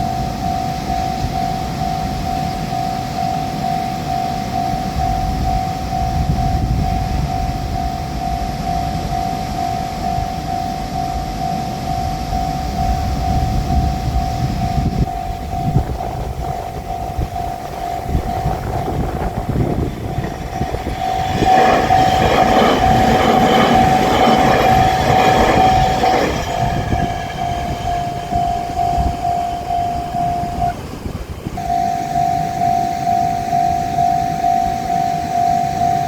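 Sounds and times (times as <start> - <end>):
level-crossing alarm ringing: 0.0 - 36.0
train rumbling past on rails: 0.0 - 36.0.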